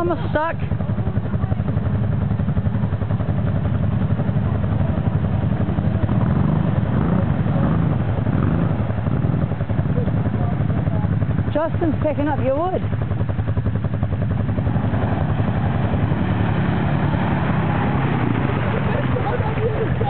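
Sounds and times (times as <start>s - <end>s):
quad driving through mud: 0.0s - 20.0s
quad engine idling: 0.0s - 20.0s.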